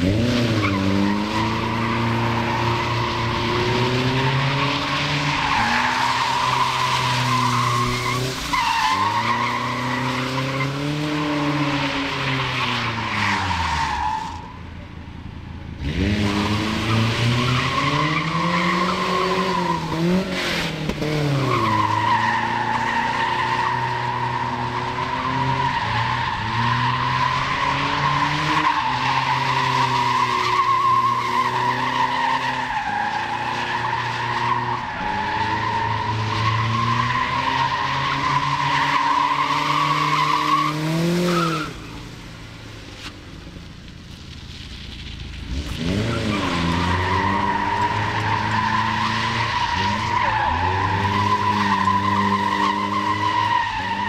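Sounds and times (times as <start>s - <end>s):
car engine revving: 0.0s - 14.6s, 15.2s - 54.0s.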